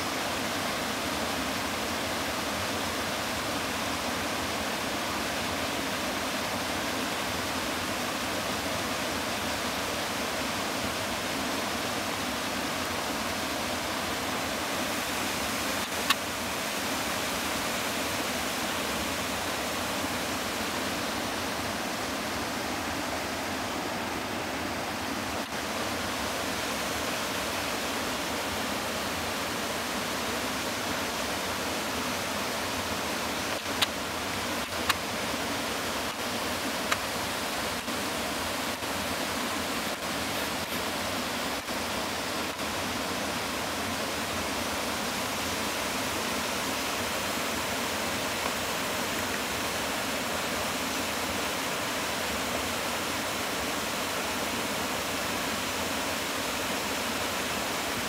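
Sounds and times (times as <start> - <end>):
water rushing down small waterfall: 0.0 - 58.0.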